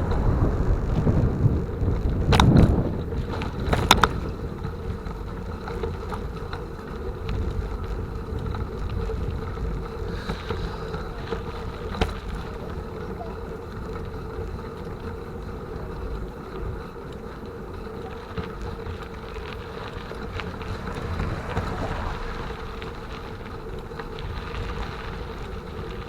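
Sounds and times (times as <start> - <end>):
bicycle ride rumble: 0.0 - 26.0
wind buffeting microphone: 0.0 - 26.0.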